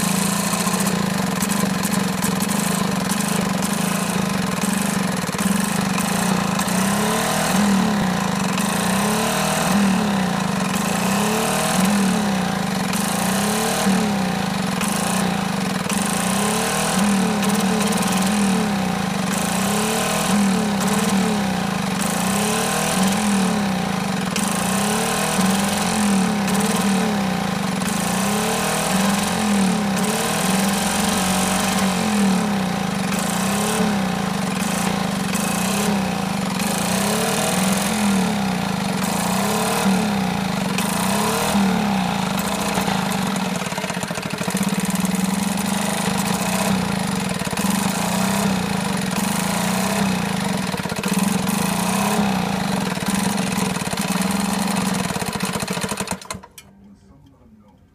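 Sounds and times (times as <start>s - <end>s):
outboard motor surging: 0.0s - 56.5s.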